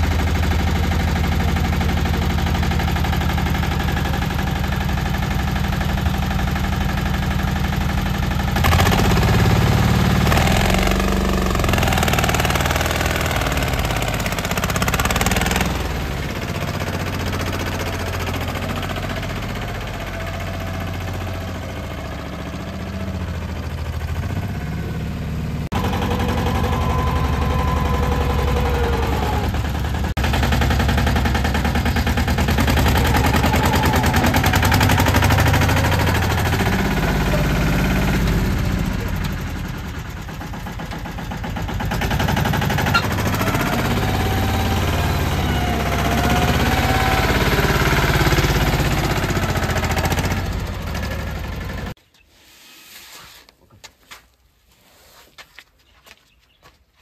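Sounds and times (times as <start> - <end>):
tractor diesel engine chugging: 0.0 - 52.0.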